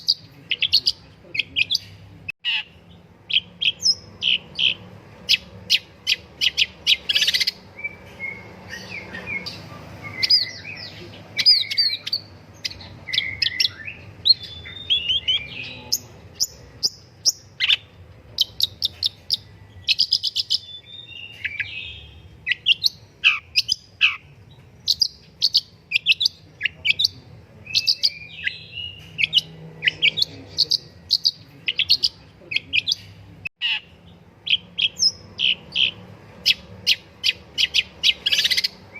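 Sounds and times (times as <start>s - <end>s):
shrike singing: 0.0s - 38.9s.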